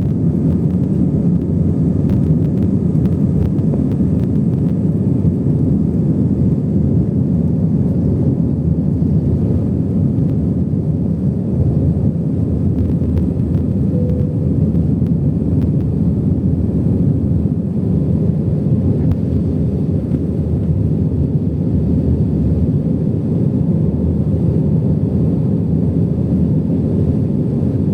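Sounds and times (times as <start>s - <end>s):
airplane engines rumbling: 0.0s - 27.9s.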